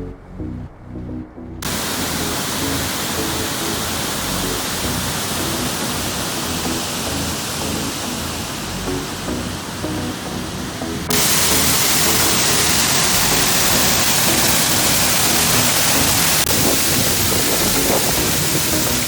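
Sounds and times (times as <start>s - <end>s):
waterfall rushing: 1.6s - 19.0s.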